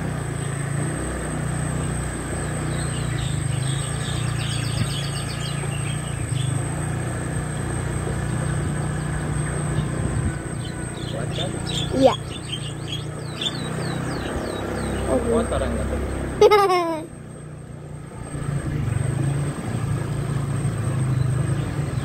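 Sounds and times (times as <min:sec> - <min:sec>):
birds chirping: 0:00.0 - 0:22.0
electric motor hum and rolling rumble: 0:00.0 - 0:22.0.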